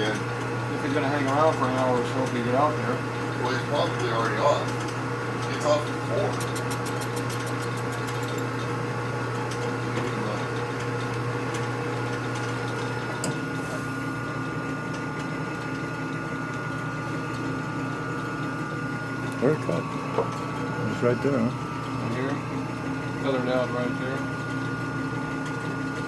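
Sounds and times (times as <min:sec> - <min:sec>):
machine tool humming: 0:00.0 - 0:26.0.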